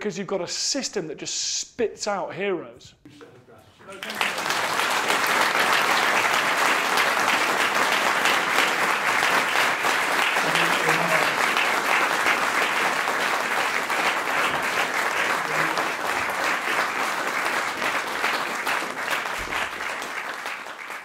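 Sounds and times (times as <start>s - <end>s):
audience applauding: 3.8s - 21.0s.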